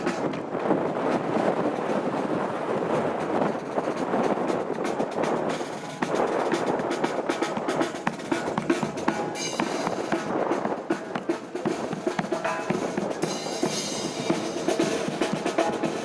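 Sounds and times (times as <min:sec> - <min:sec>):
bass and snare drums: 0:00.0 - 0:01.6, 0:03.2 - 0:16.0
marching brass band: 0:00.0 - 0:16.0.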